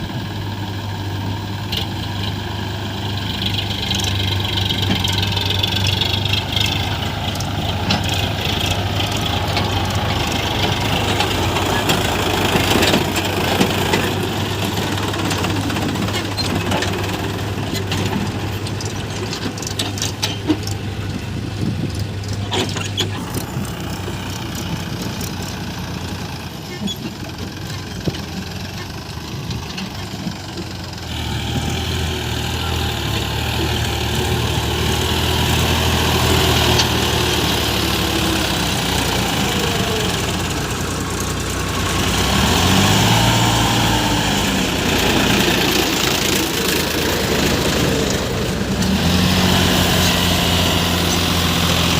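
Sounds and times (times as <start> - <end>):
diesel engine revving: 0.0 - 51.9.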